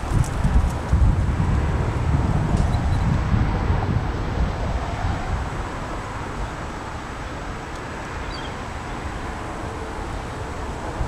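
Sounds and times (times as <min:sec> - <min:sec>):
wind buffeting microphone: 0:00.0 - 0:11.0
wind rustling through trees: 0:00.0 - 0:11.0.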